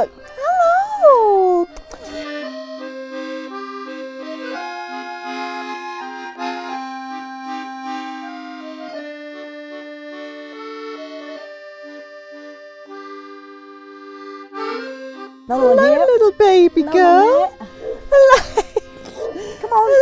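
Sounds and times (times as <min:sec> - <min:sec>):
tune of held notes: 0:00.0 - 0:20.0.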